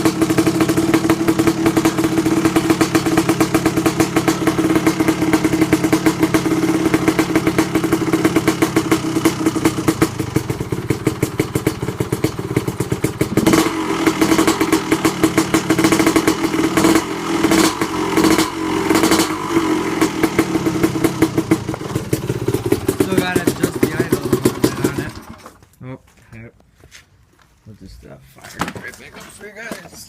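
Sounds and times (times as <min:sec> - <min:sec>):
two-stroke motorcycle engine idling: 0:00.0 - 0:25.4.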